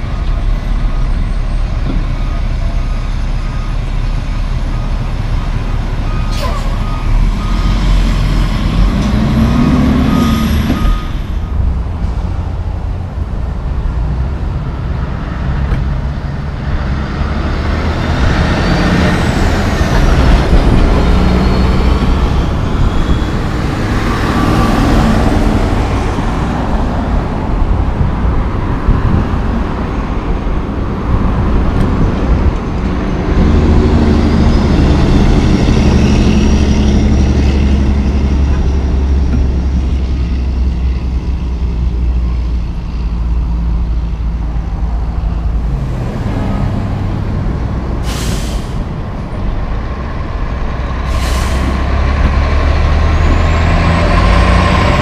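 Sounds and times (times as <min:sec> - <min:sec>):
heavy diesel trucks passing: 0:00.0 - 0:55.0.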